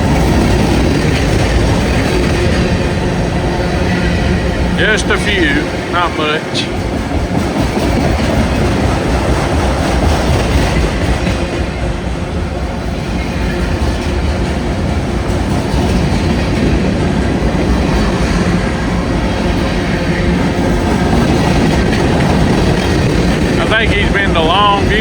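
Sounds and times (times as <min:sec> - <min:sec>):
freight train cars rolling past: 0:00.0 - 0:25.0
steel wheels on rails: 0:00.0 - 0:25.0.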